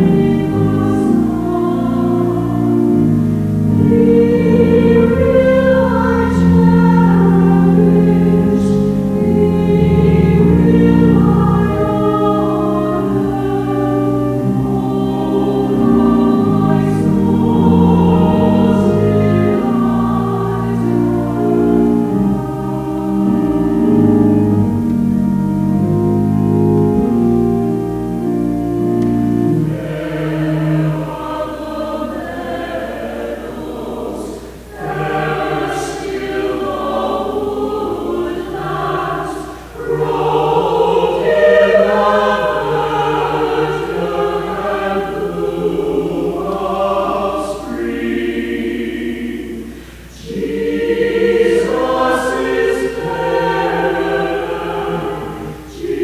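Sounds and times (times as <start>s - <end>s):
choir singing: 0.0s - 56.0s
church organ chords: 0.0s - 56.0s.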